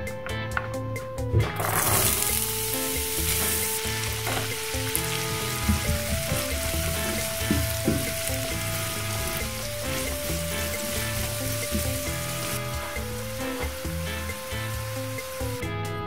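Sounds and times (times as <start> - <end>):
food frying with sizzle: 1.6 - 15.6.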